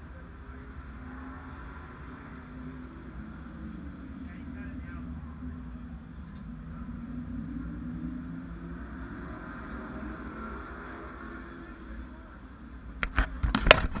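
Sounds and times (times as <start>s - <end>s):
race car engine rumbling: 0.0s - 14.0s.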